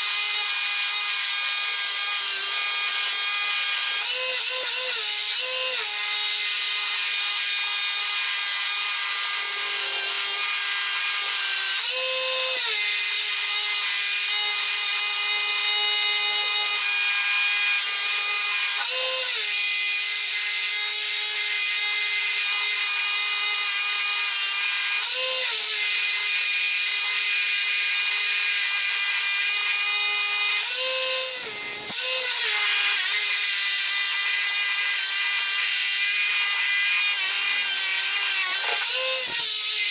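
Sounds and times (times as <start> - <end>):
power tool motor on concrete: 0.0 - 39.9.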